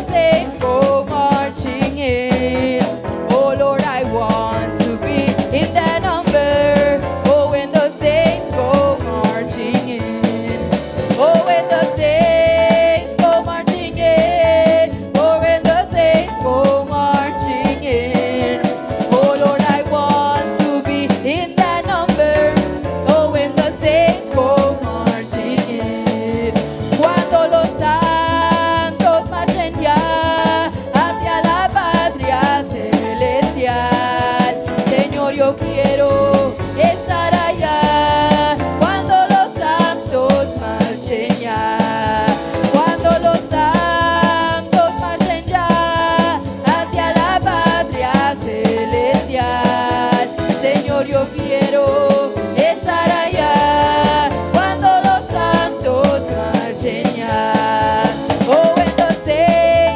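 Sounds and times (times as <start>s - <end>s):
band playing gospel song: 0.0s - 59.9s
drum kit: 0.0s - 59.9s
people singing along: 4.2s - 59.9s.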